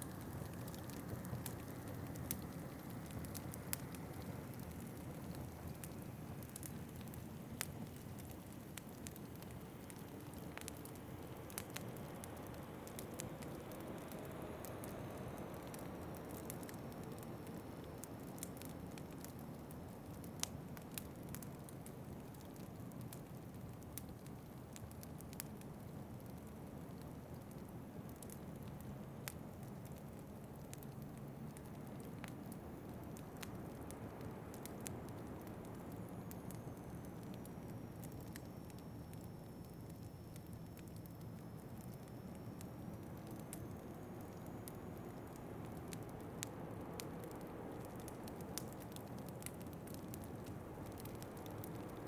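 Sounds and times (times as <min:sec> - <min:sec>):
low rumble of wind: 0:00.0 - 0:52.0
wood fire crackling and popping: 0:00.0 - 0:52.0.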